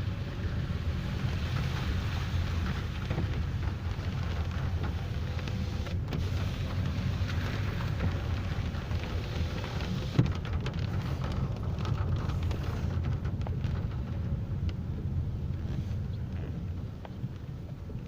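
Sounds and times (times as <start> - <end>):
rain falling: 0.0 - 18.0
steady low rumble: 0.0 - 18.0.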